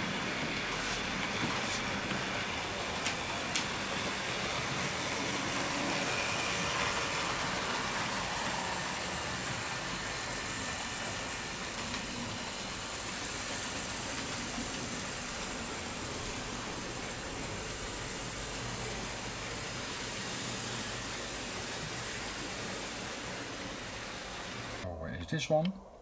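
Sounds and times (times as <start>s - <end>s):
model trains rolling on track: 0.0s - 24.8s.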